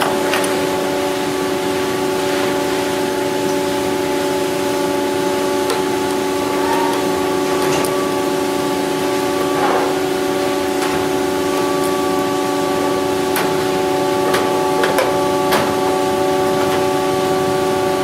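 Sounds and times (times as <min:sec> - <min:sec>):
workshop hum: 0:00.0 - 0:18.0.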